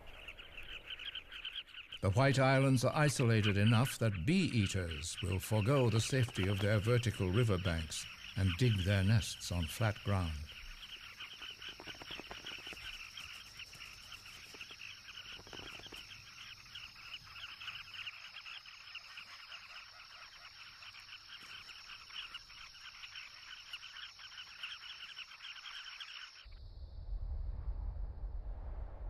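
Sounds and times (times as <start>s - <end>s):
birds chattering: 0.0s - 26.5s.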